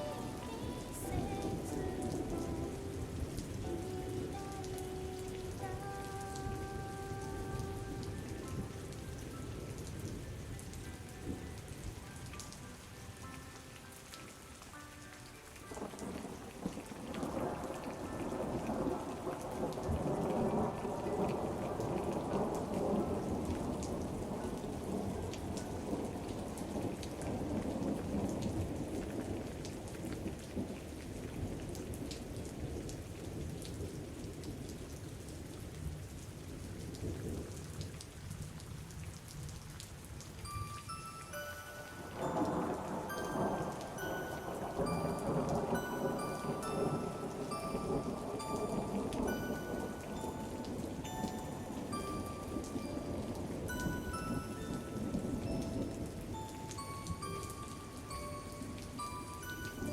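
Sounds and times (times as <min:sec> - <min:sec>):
raindrops ticking: 0:00.0 - 0:59.9
steady rain falling: 0:00.0 - 0:59.9.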